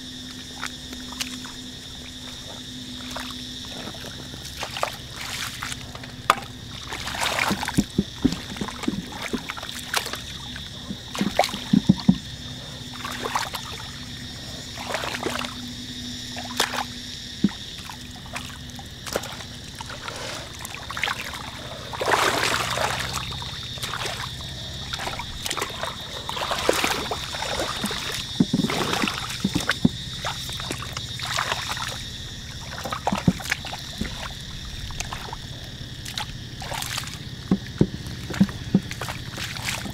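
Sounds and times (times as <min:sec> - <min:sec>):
splashing in muddy water: 0:00.0 - 0:39.9.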